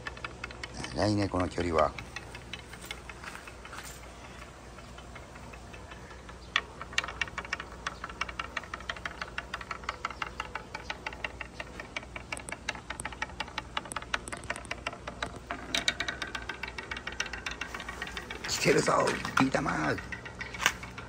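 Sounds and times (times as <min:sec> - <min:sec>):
marble clicking on wooden track: 0:00.0 - 0:21.0.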